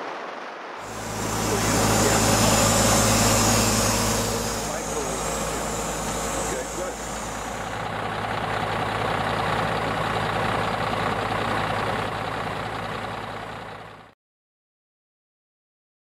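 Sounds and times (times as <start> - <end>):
truck engine idling: 0.8 - 14.1.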